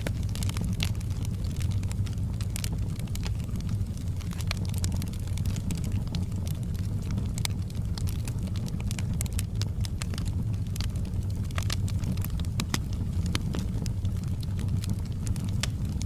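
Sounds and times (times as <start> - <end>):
fireplace fire crackling and popping: 0.0 - 16.0
low steady rumble: 0.0 - 16.0.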